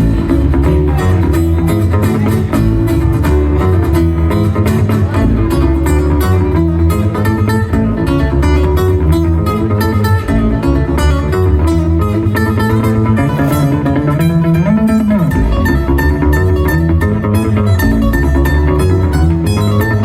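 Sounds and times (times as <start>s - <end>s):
plucked acoustic guitar: 0.0s - 20.0s
steady low bass notes: 0.0s - 20.0s.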